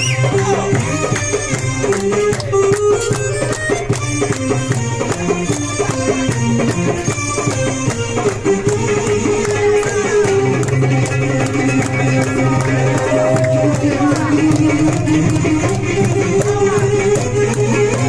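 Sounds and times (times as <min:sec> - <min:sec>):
electronic keyboard melody: 0:00.0 - 0:18.0
hand percussion beat: 0:00.0 - 0:18.0.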